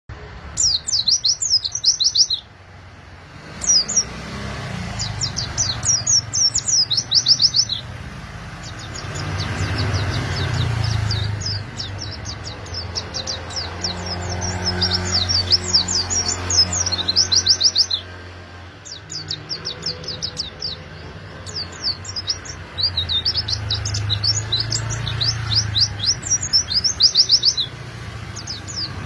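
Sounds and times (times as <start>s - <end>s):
bird chattering song: 0.5s - 2.5s, 3.4s - 29.0s.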